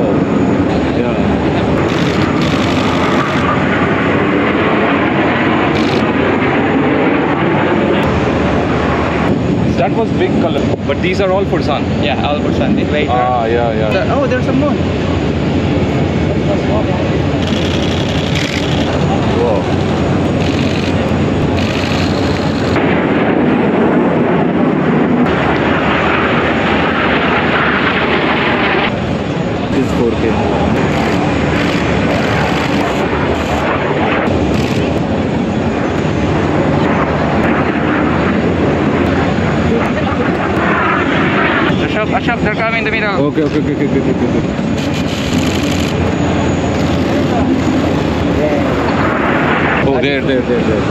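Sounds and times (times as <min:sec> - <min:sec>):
jet engines roaring overhead: 0:00.0 - 0:50.9.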